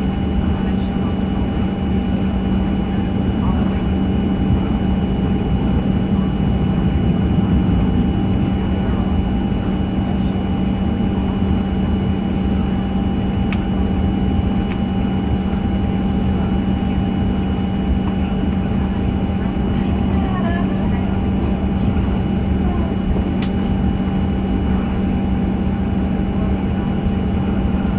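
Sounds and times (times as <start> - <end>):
airplane cabin hum: 0.0 - 27.9.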